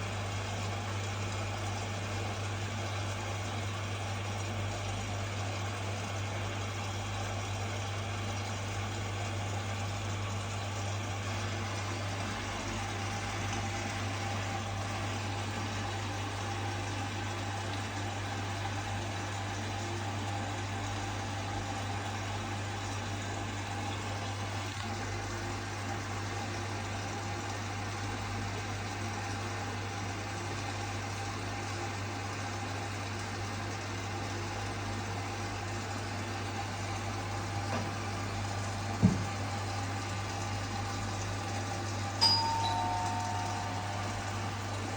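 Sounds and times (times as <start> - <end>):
faint washing machine whine: 0.0 - 44.9
washing machine humming: 0.0 - 44.9.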